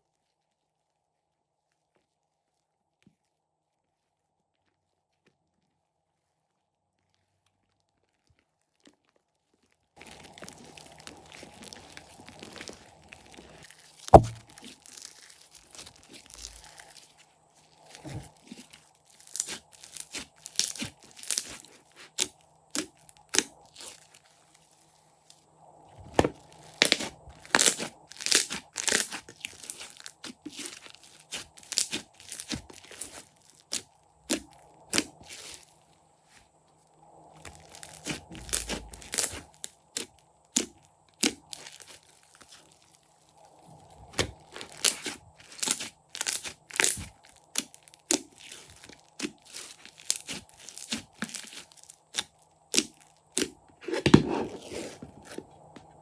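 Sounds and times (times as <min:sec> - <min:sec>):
slime crackling and crunching: 0:06.8 - 0:25.4, 0:26.0 - 0:35.8, 0:37.4 - 0:56.0.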